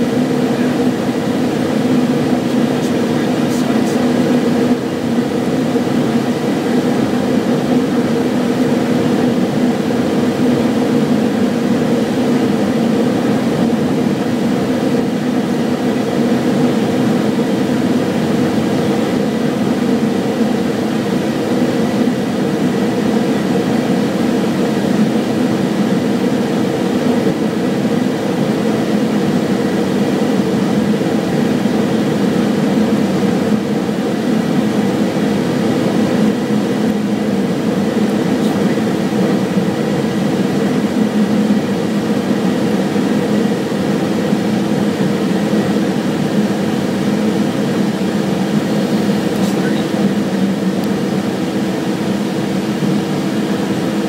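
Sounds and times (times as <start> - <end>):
jet cockpit engine drone: 0.0 - 54.0.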